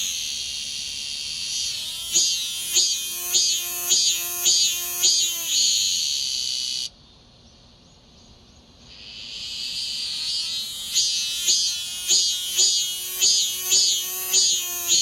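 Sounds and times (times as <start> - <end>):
cicada buzzing: 0.0 - 6.9, 8.9 - 15.0.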